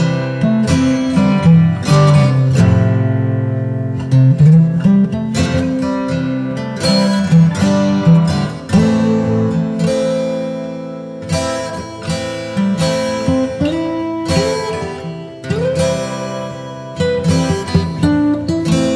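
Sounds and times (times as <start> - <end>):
acoustic guitar chords: 0.0 - 18.9.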